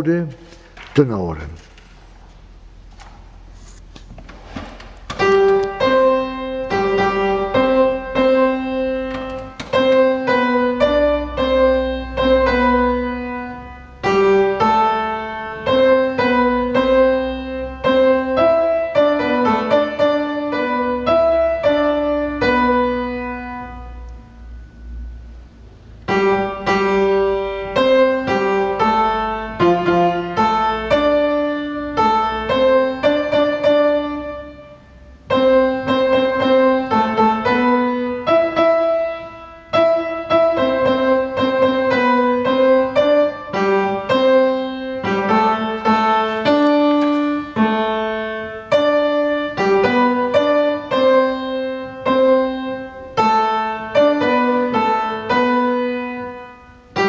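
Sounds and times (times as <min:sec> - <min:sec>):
piano playing chords: 0:05.0 - 0:57.0.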